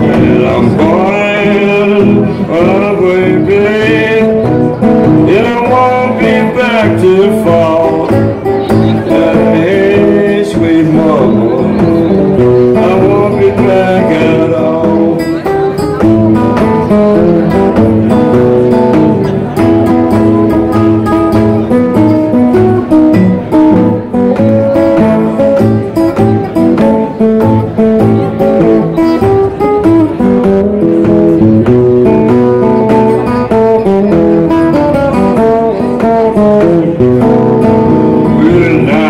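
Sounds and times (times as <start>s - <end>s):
resonator guitar blues: 0.0s - 39.0s.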